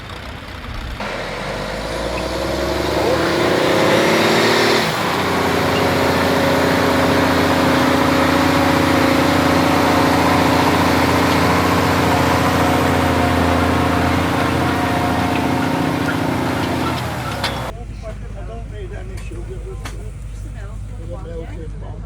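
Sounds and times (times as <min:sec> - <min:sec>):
tractor engine running: 0:00.0 - 0:17.7.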